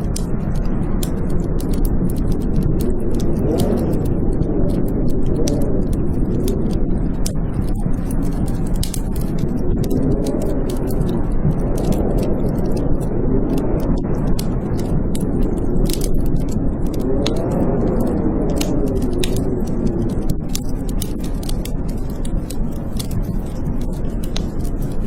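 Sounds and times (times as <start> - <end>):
blizzard wind howling: 0.0 - 25.0
wood fire crackling and popping: 0.0 - 25.0.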